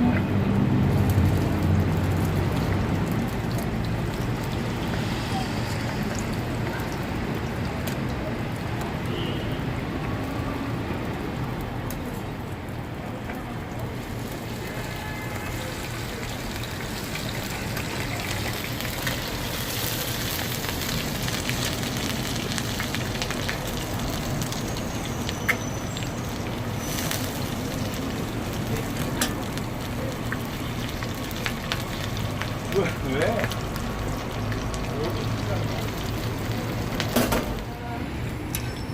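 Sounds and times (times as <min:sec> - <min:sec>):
oil sizzling on a griddle: 0:00.3 - 0:37.7.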